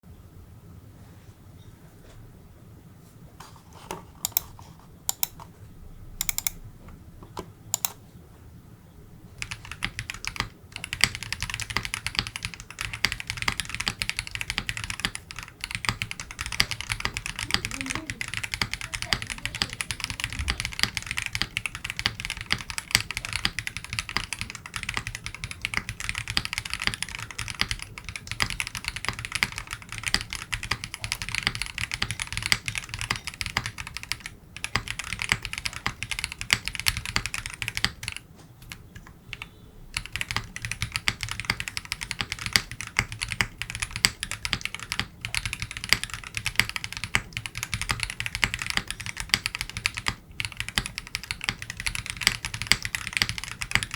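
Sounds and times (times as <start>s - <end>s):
fast typing on mechanical keyboard: 3.5s - 5.5s, 6.2s - 6.6s, 7.7s - 8.0s, 9.4s - 53.9s.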